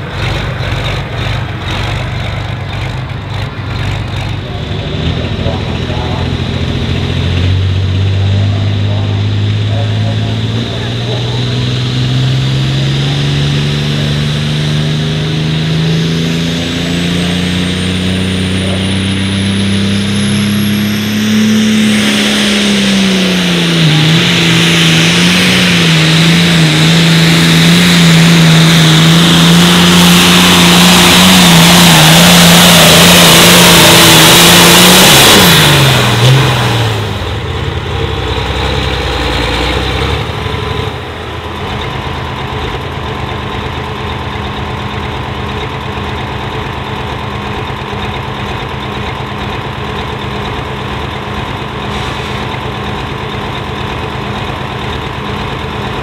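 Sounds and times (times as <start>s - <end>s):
diesel tractor engine revving: 0.0s - 56.0s.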